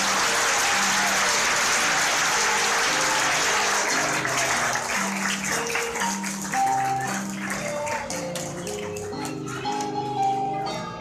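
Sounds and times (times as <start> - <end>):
audience applauding: 0.0 - 9.9
music with held notes: 0.0 - 11.0.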